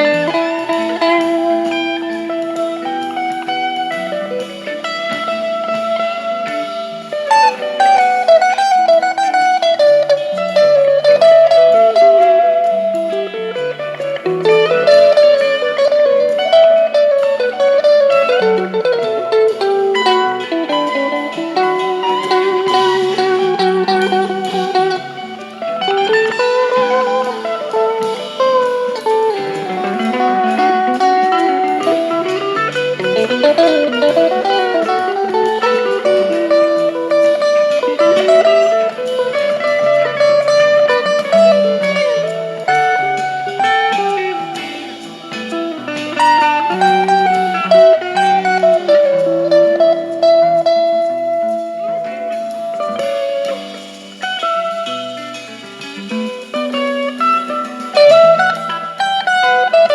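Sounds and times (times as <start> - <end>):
electric guitar lead lines: 0.0 - 59.9
rock band backing track: 0.0 - 59.9.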